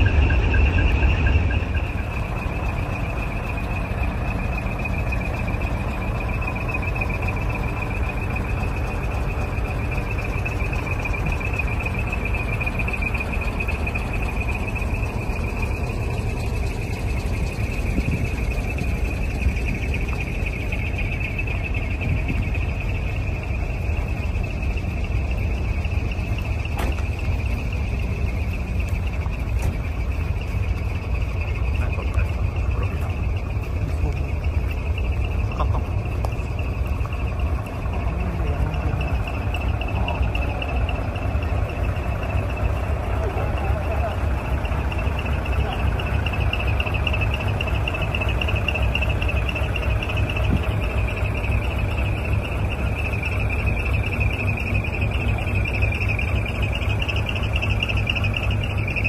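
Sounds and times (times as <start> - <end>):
diesel truck engines idling: 0.0 - 59.0
insects trilling: 0.0 - 59.0.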